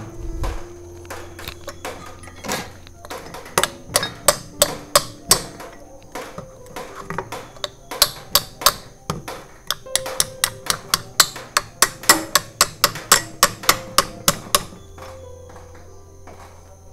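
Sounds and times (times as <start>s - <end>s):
faint background music: 0.0s - 16.9s
light metal taps and clicks: 1.0s - 14.8s.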